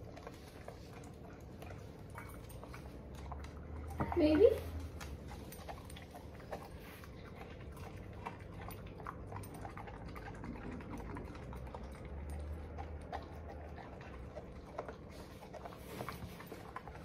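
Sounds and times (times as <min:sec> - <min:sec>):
dog chewing crunchy kale: 0:00.0 - 0:17.0.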